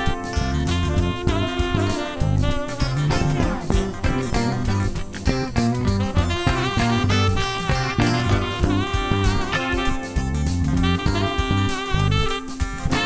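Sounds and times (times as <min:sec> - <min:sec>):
upbeat jazz music: 0:00.0 - 0:13.0.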